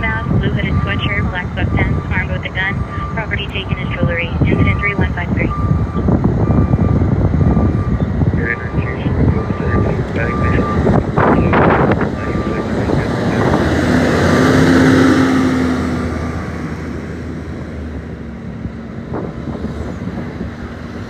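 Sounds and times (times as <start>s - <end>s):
vehicle passing: 0.0s - 21.0s.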